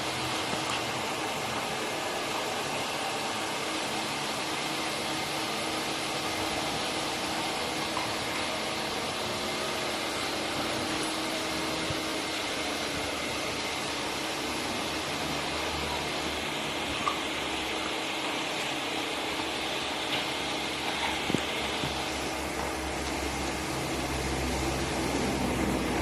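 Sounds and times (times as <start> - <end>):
air conditioner whirring: 0.0 - 26.0.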